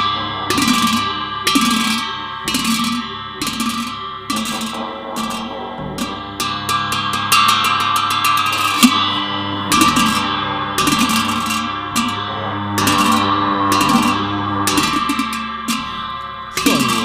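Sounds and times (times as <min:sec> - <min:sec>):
hand cymbals struck and ringing: 0:00.0 - 0:17.0.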